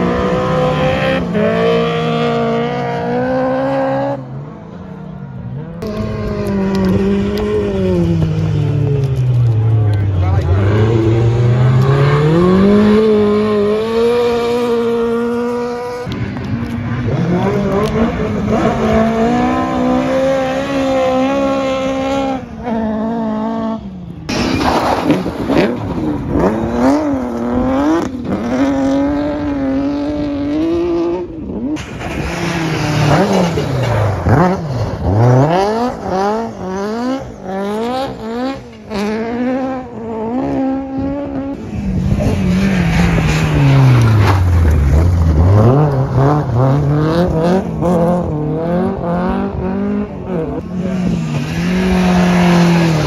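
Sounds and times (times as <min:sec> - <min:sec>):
rally car engines revving: 0:00.0 - 0:53.0.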